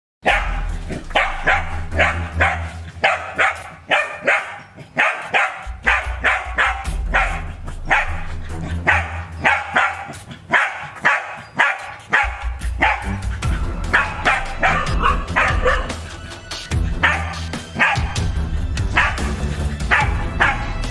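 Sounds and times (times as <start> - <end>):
background music with bass: 0.2 - 4.5, 5.4 - 10.5, 12.0 - 20.9
dogs barking: 0.2 - 20.9.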